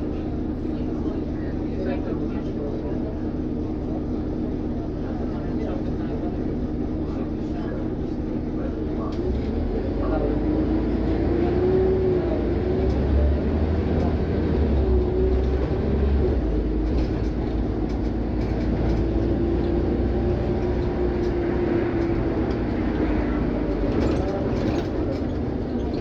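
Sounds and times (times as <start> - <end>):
bus engine rumbling and whining: 0.0 - 26.0.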